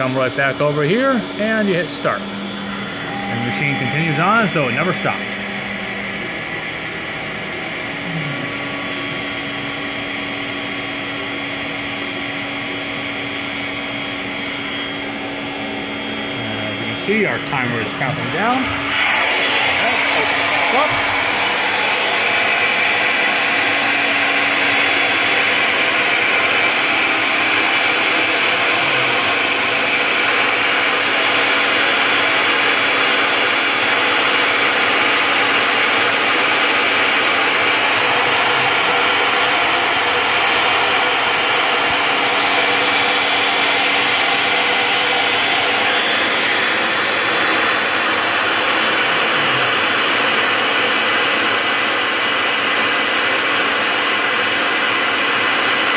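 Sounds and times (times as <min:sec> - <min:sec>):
milling machine whine: 0:00.0 - 0:55.9.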